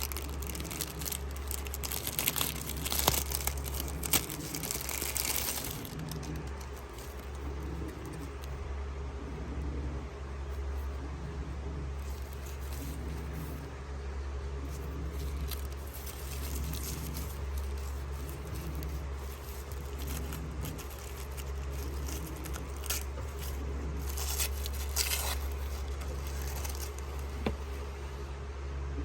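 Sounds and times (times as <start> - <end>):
packaging rustling and crinkling: 0.0 - 8.6, 12.0 - 13.7, 14.6 - 28.1
steady low hum: 0.0 - 29.0.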